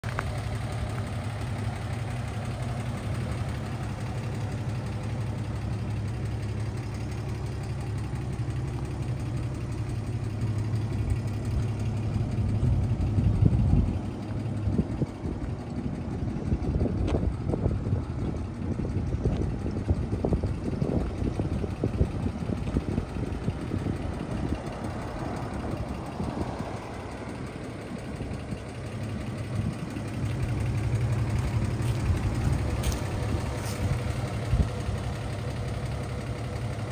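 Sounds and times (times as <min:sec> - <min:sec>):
pickup truck engine idling: 0:00.0 - 0:36.9.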